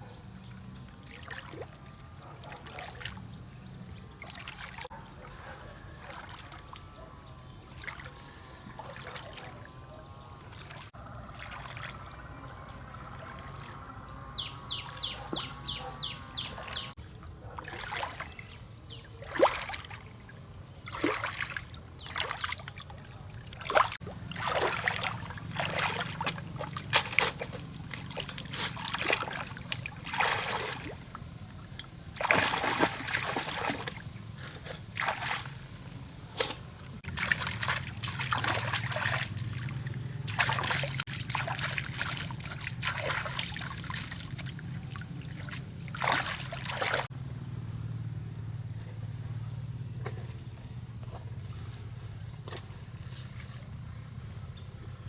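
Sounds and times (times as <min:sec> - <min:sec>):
water splashing and trickling: 0:00.0 - 0:47.1.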